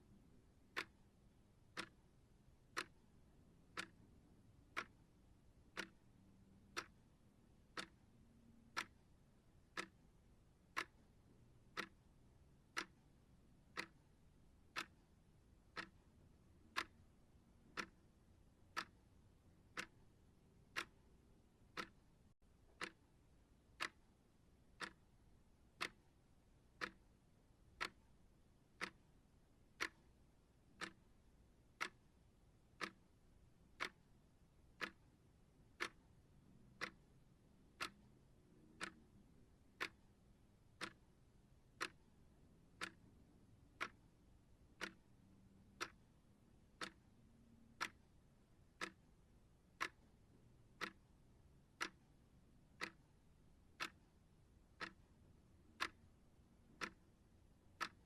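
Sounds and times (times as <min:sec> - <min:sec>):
clock ticking: 0:00.3 - 0:58.0.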